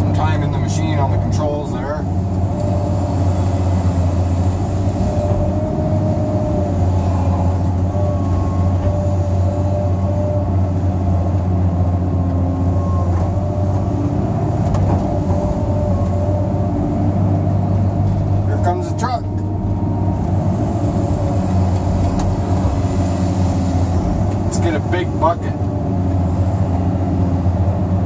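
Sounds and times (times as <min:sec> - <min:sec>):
excavator diesel engine drone: 0:00.0 - 0:28.0
hydraulic whine: 0:00.0 - 0:28.0.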